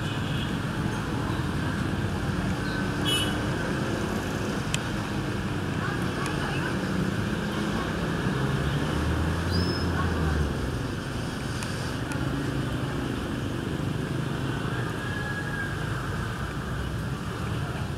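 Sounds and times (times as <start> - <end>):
steady background noise: 0.0 - 17.9.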